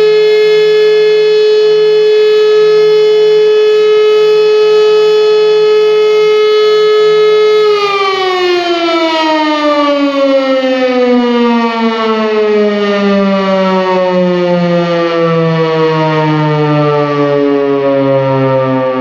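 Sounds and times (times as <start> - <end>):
siren winding down: 0.0 - 19.0.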